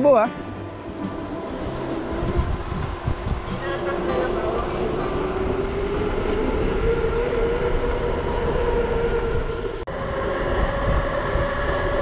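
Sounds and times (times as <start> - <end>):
steady whine: 0.4 - 12.0
wind rushing over microphone: 0.5 - 12.0.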